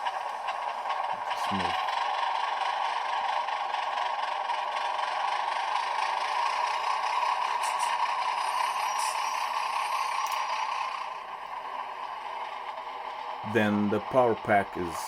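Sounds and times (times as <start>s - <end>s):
tinny model train engine sound: 0.0s - 15.0s.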